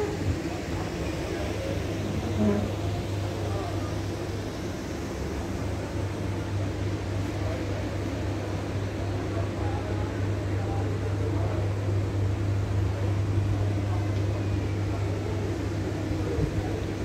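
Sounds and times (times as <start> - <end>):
faint chatter of people: 0.0 - 17.0.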